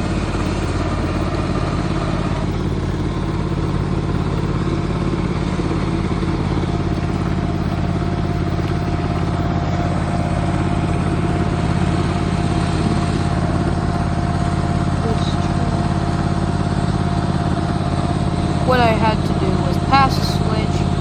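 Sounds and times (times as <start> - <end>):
model locomotive diesel engine drone: 0.0 - 21.0.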